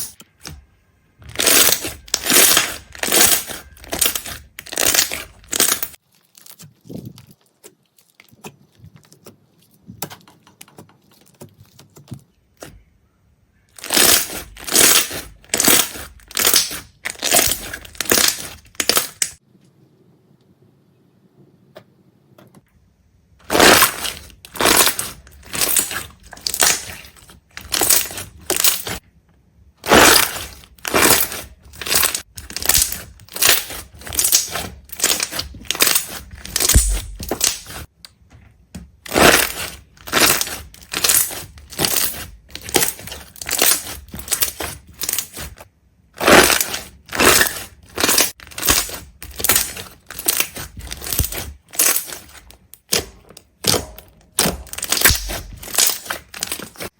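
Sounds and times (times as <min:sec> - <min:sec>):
crisp crushing crunches: 0:01.2 - 0:09.9, 0:13.7 - 0:19.4, 0:23.4 - 0:29.0, 0:29.8 - 0:37.9, 0:39.0 - 0:56.9.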